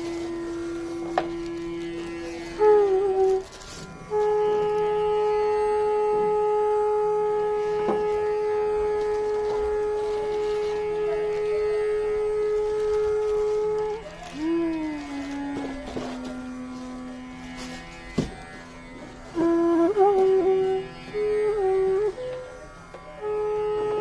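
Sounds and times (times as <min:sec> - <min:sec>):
bamboo flute playing: 0:00.0 - 0:24.0.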